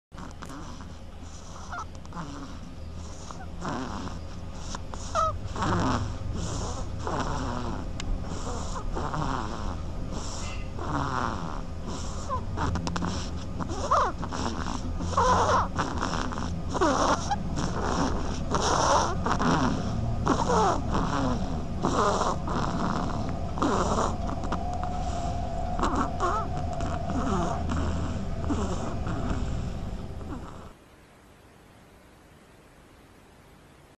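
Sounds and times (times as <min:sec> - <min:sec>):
duck snoring: 0:00.2 - 0:30.8.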